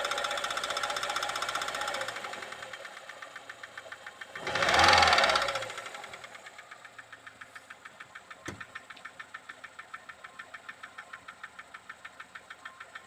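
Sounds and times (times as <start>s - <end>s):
car engine idling: 0.0s - 13.0s
engine valve ticking: 0.0s - 13.0s.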